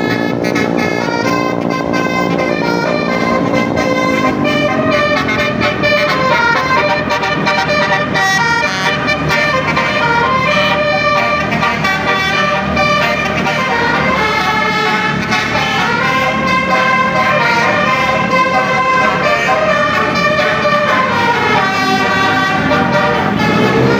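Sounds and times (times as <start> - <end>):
multi-tone horn melody: 0.0 - 23.9.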